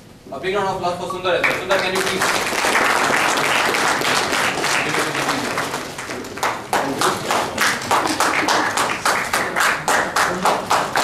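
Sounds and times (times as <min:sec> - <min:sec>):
audience applause: 0:01.4 - 0:11.0
rhythmic clapping in unison: 0:01.4 - 0:11.0.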